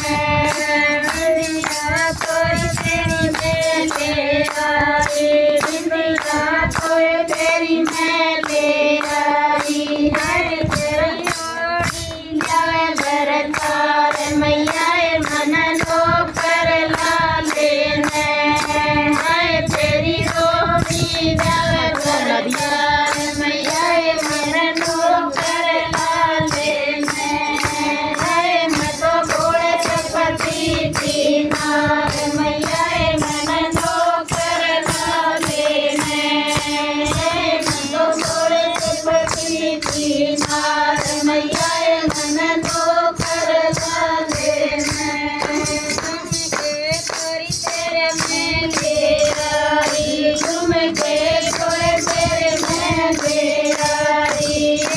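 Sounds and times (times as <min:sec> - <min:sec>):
hand-clapping: 0:00.0 - 0:54.9
women singing folk song: 0:00.0 - 0:54.9.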